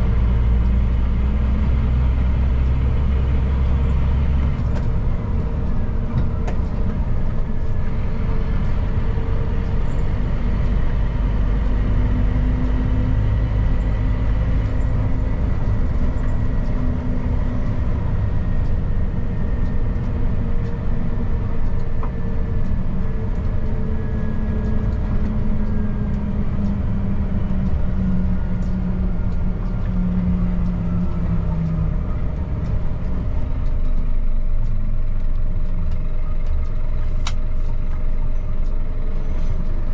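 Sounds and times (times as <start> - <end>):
road and tyre noise: 0.0 - 39.9
truck diesel engine running: 0.0 - 39.9.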